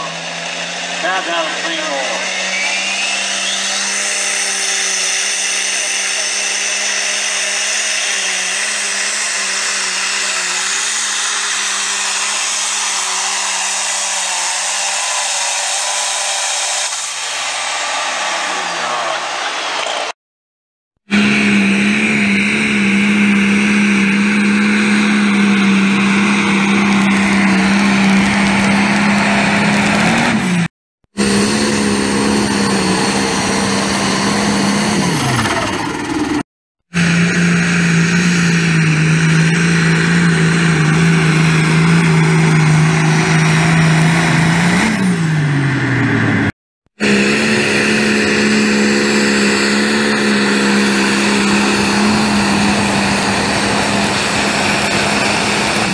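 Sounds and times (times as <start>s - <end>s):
high engine whine: 0.0s - 20.2s, 21.0s - 55.9s
tractor diesel engines at full throttle: 0.0s - 20.2s, 21.0s - 55.9s.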